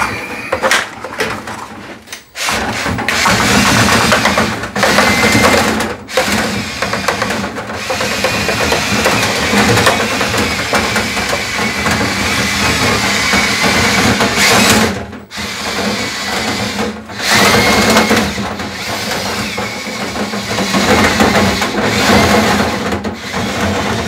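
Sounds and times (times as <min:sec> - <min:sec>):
cordless drill spinning: 0:02.4 - 0:24.0.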